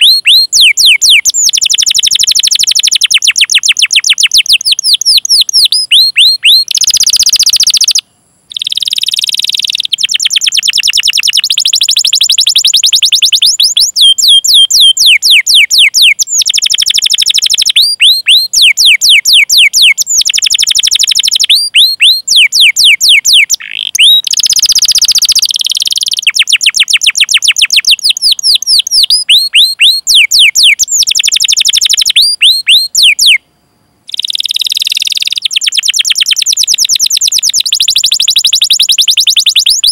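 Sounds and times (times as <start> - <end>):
canary singing: 0.0 - 33.4, 34.1 - 39.9.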